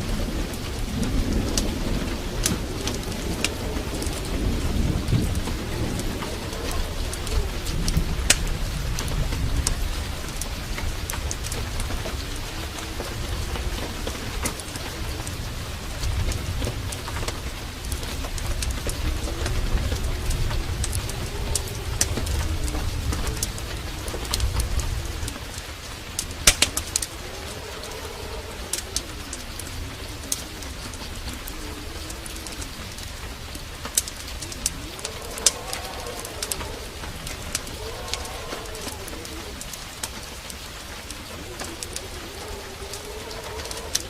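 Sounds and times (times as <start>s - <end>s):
crackles and drips: 0.0s - 44.0s
heavy rain pouring: 0.0s - 44.0s.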